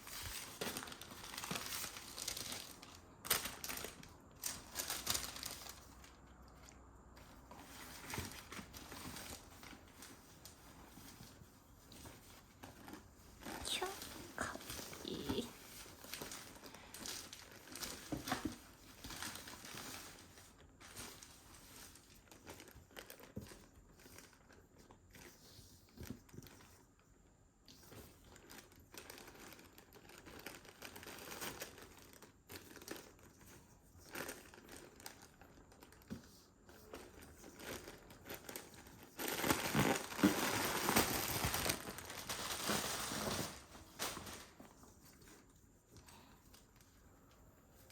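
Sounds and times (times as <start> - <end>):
paper crinkling: 0.0 - 26.9, 27.7 - 47.0
paper packaging rustling: 0.0 - 26.9, 27.8 - 47.0.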